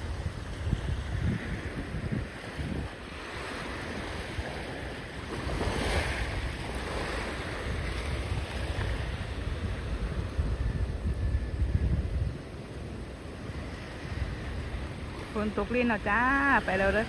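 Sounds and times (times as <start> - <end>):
sea waves washing in: 0.0 - 17.0
wind buffeting microphone: 0.0 - 17.0.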